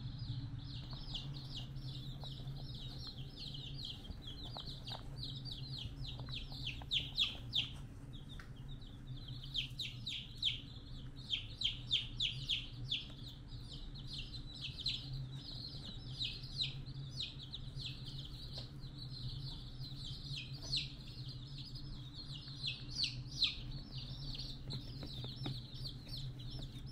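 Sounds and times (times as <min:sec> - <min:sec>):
birds chirping: 0:00.0 - 0:26.9
steady low hum: 0:00.0 - 0:26.9.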